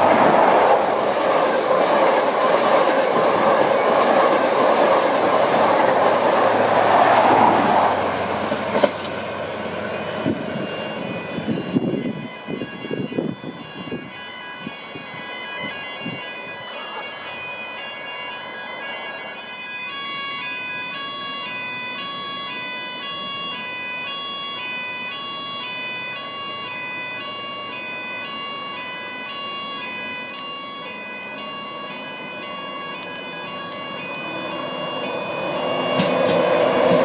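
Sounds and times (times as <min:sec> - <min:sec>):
electric train rumbling: 0:00.0 - 0:37.0
two-tone siren: 0:00.0 - 0:37.0.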